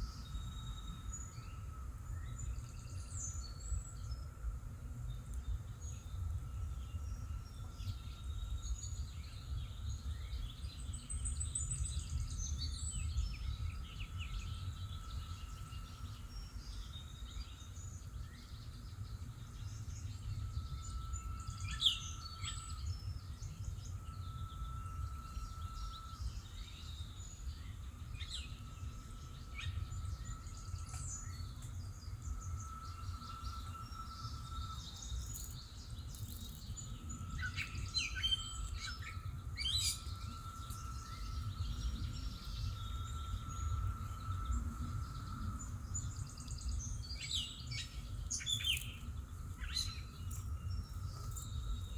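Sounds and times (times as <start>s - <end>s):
low background rumble: 0.0s - 51.9s
songbirds chirping: 0.0s - 51.9s.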